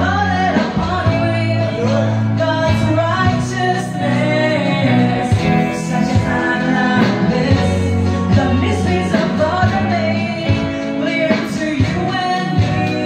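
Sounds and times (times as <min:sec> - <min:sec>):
guitar accompaniment: 0:00.0 - 0:13.0
low bass notes: 0:00.0 - 0:13.0
women singing: 0:00.0 - 0:13.0.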